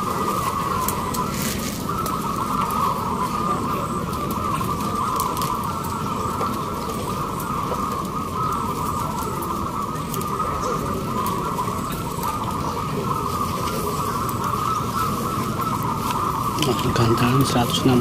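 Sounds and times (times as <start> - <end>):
doves cooing in chorus: 0.0 - 18.0.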